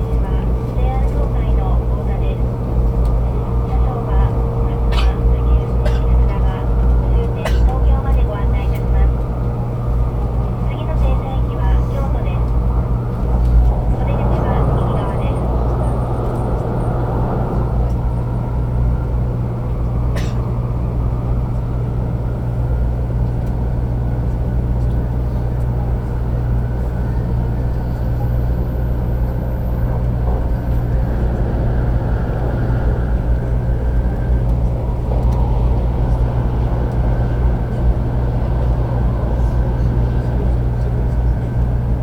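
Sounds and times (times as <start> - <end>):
train interior rumble: 0.0 - 42.0.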